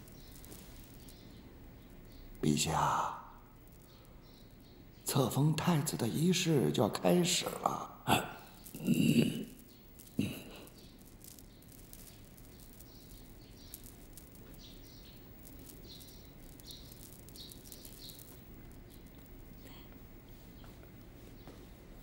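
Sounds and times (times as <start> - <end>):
birds chirping: 0.0 - 21.7
background hiss: 0.0 - 22.0.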